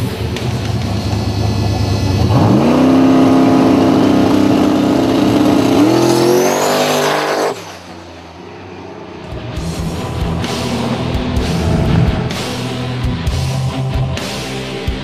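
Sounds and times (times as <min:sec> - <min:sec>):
drag racing car engine revving: 0:00.0 - 0:15.0
high turbo whine: 0:00.0 - 0:15.0.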